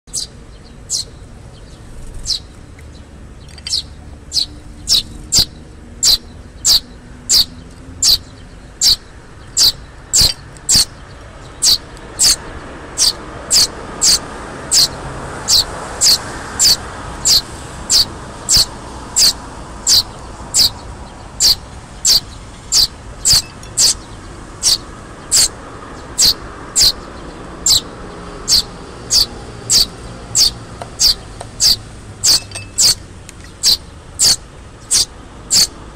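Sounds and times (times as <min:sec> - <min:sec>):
sparrow fledgling begging calls: 0:00.1 - 0:02.5, 0:03.4 - 0:35.8.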